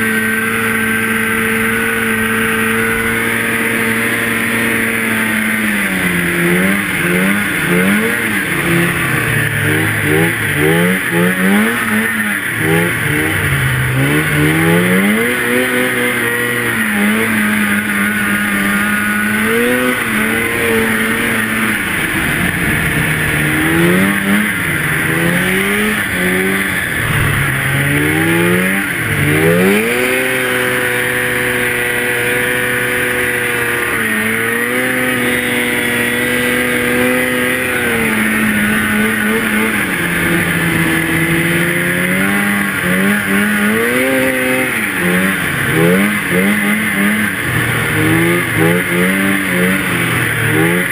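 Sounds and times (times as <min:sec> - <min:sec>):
snowmobile engine revving: 0:00.0 - 0:50.9.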